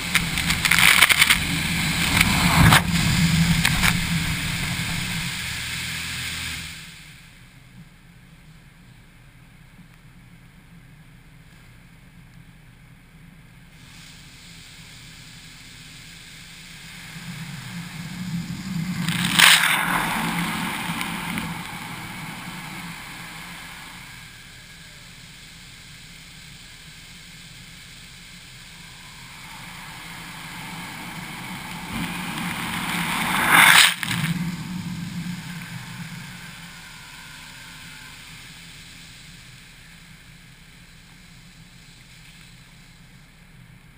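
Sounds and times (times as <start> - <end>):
high-pressure water jets spraying: 0.0 - 7.2, 13.8 - 43.3.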